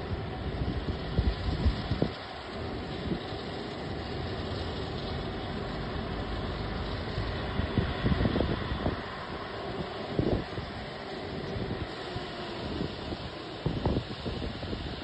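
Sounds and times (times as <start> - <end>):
machinery engine rumble: 0.0 - 15.0.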